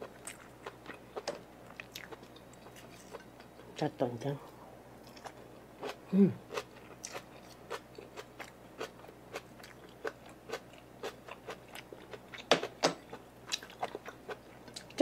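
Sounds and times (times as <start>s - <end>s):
chewing with crisp crunches: 0.0s - 3.7s, 5.0s - 15.0s.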